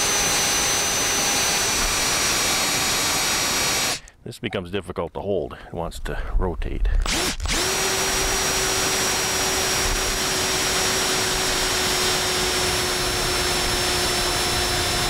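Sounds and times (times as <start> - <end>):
drill boring into wood: 0.0 - 4.1, 7.0 - 15.0.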